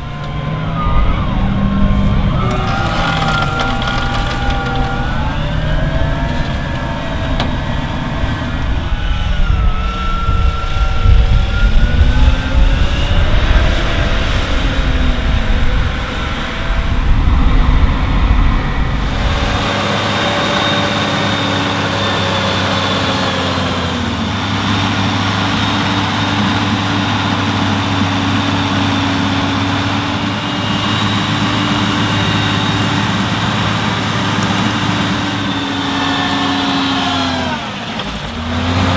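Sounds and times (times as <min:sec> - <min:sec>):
farm machinery engine rumbling: 0:00.0 - 0:12.7, 0:18.0 - 0:38.9.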